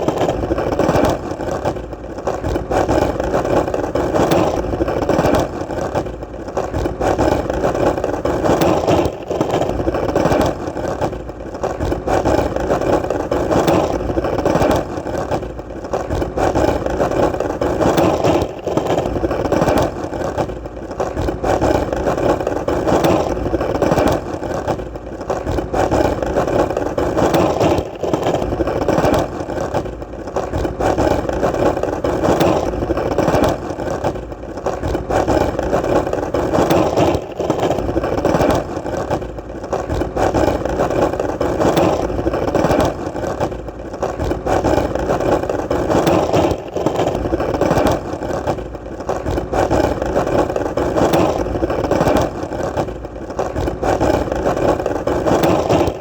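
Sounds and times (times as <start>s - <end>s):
skateboard wheels rolling: 0.0s - 56.0s.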